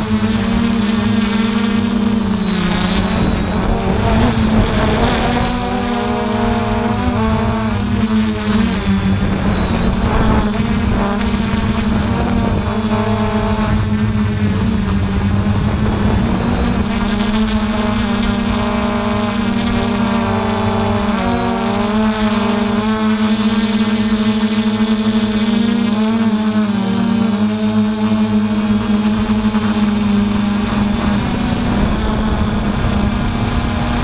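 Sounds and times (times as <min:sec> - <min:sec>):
drone motors and propellers whining: 0:00.0 - 0:34.0.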